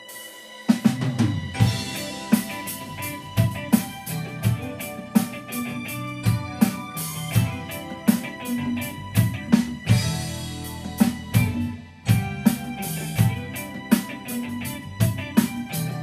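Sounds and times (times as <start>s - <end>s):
drum kit beat: 0.0s - 16.0s
electric guitar: 1.5s - 16.0s.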